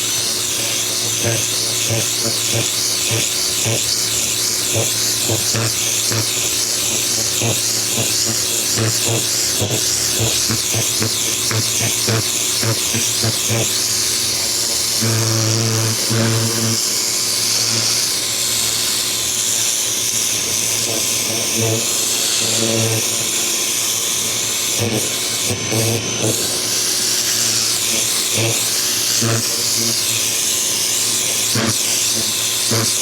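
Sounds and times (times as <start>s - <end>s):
pressure washer pump buzzing: 0.0s - 33.0s.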